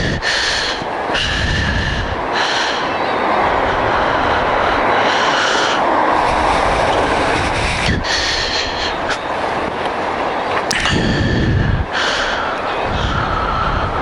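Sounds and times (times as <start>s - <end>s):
wind rushing: 0.0s - 14.0s.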